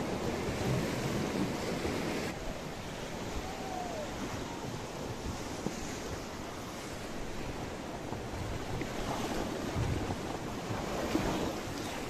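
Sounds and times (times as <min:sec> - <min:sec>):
river water rushing in rapids: 0:00.0 - 0:12.0
wind buffeting microphone: 0:00.0 - 0:12.0.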